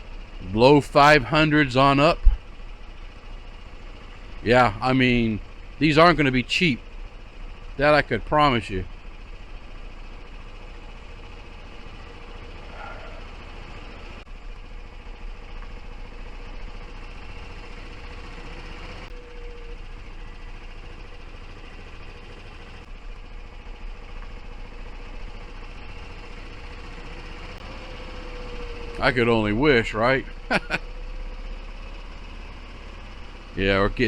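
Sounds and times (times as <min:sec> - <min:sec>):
road noise: 0:00.0 - 0:34.0
vehicle running hum: 0:00.0 - 0:34.0.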